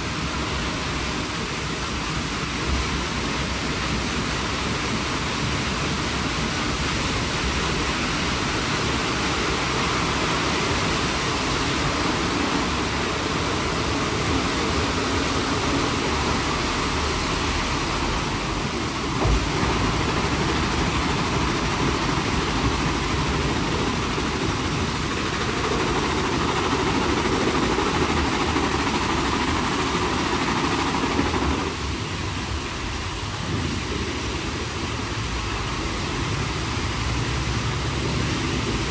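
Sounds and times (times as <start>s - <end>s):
car wash brushes and spraying: 0.0s - 38.9s.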